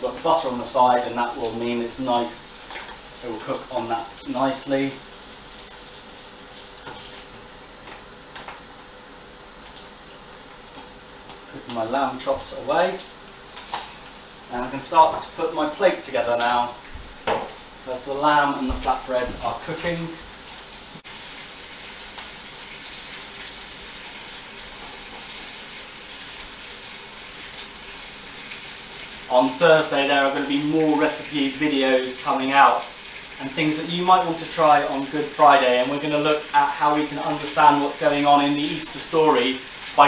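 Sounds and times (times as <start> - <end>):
extractor fan hum: 0.0 - 40.0
meat sizzling in frying pans: 0.0 - 40.0.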